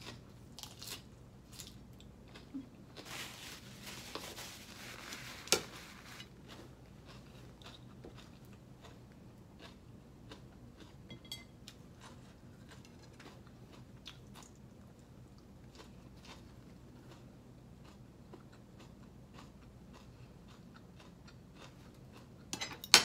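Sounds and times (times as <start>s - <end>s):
chewing and crunching food: 0.0s - 22.6s.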